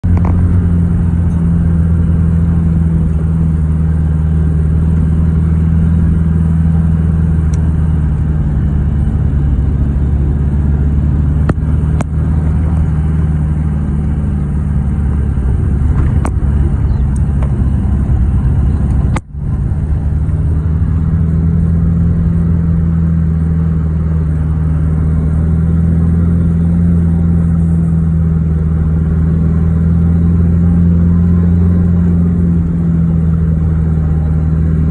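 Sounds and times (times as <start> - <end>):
vehicle engine and road drone: 0.0 - 34.9.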